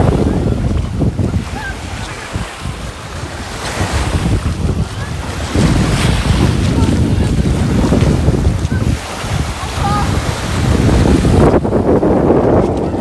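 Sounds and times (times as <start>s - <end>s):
waves washing on beach: 0.0s - 13.0s
wind buffeting microphone: 0.0s - 13.0s.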